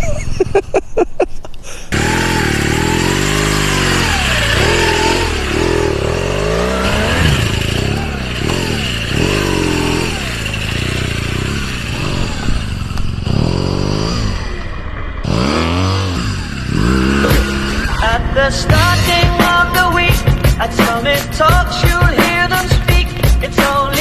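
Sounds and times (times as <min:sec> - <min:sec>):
motorcycle engine revving: 0:01.9 - 0:24.0.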